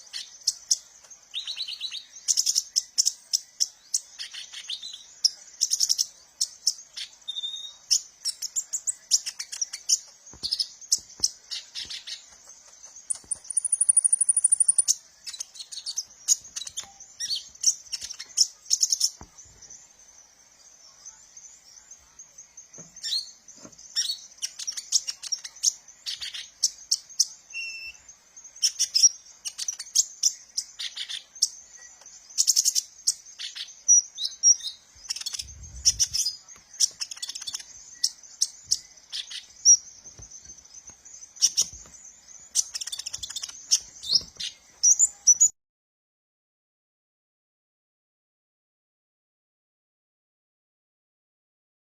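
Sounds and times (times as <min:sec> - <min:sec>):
bird trill: 0:00.0 - 0:19.8, 0:22.7 - 0:45.5
bird chirping and twittering: 0:00.0 - 0:45.6.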